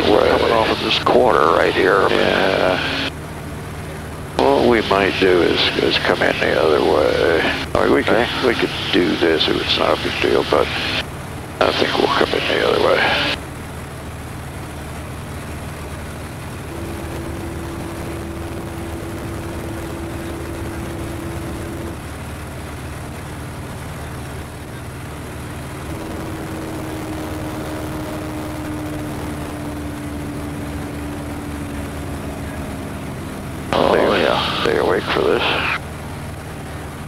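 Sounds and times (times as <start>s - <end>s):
aircraft engine droning in cockpit: 0.0s - 37.0s
faint steady tone: 0.0s - 37.0s.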